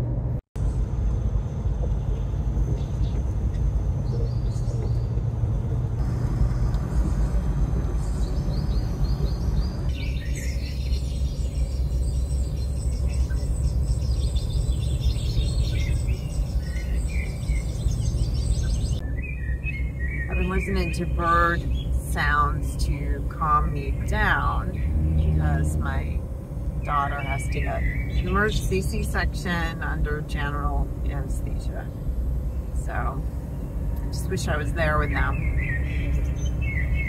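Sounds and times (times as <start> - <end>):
truck cab road rumble: 0.0 - 37.0
recorded birdsong chirps: 0.6 - 37.0.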